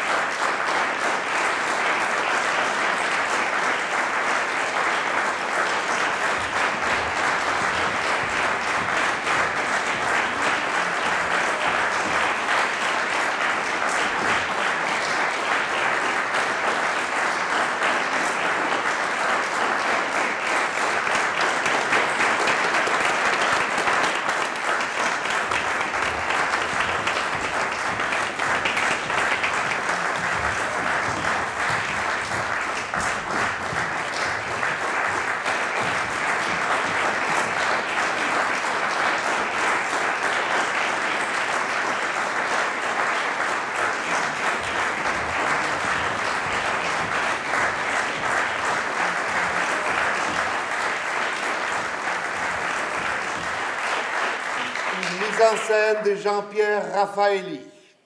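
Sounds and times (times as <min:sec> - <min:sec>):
audience applauding: 0:00.0 - 0:57.6.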